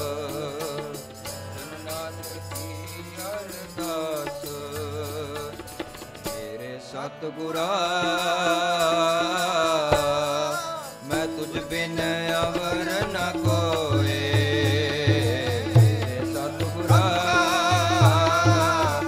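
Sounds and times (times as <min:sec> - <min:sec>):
harmonium drone: 0:00.0 - 0:19.0
man singing a hymn: 0:00.0 - 0:19.0.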